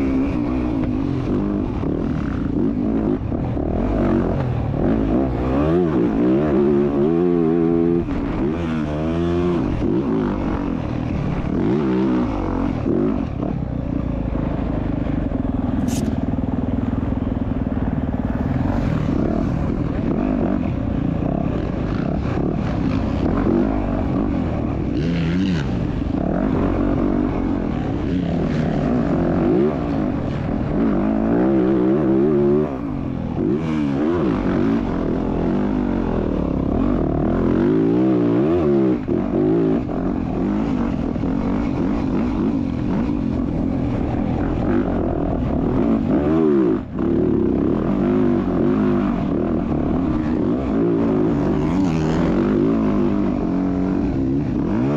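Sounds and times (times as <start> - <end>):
motocross bike engine revving: 0.0 - 16.2, 17.8 - 54.9.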